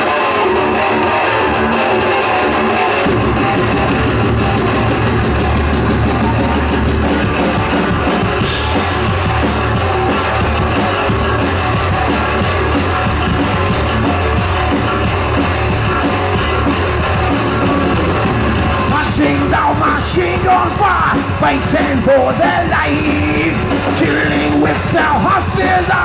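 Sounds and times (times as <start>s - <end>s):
bass guitar: 0.0s - 26.0s
distorted electric guitars: 0.0s - 26.0s
pounding drum kit: 0.0s - 26.0s.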